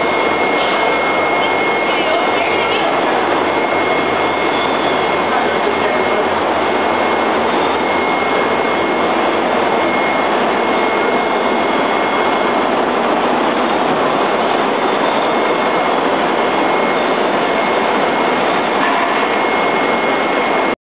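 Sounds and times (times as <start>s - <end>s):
high-pitched machine whine: 0.0s - 20.8s.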